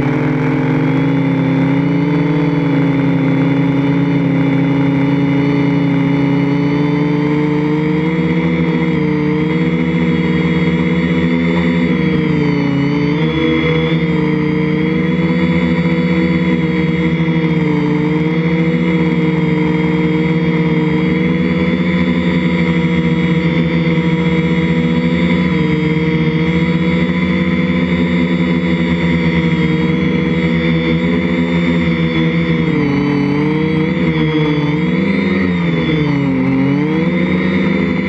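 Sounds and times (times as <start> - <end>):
drone propellers buzzing whine: 0.0 - 38.0.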